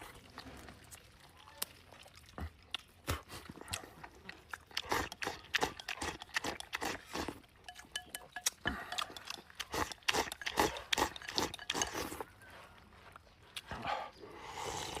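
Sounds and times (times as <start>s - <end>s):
person chewing with mouth smacks: 0.0s - 15.0s.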